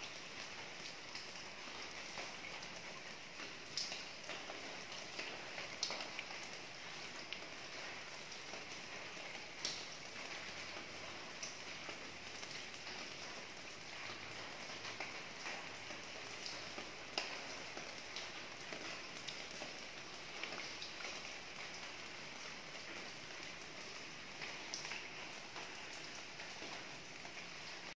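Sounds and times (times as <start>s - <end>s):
rain on roof: 0.0s - 28.0s.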